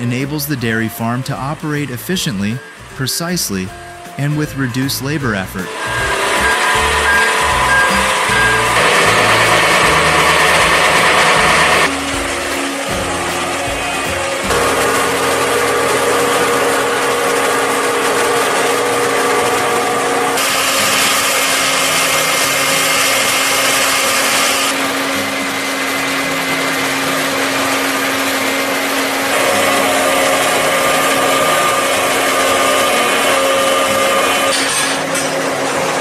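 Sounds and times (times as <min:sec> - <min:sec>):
feed mixer whirring and grinding: 0:03.7 - 0:36.0.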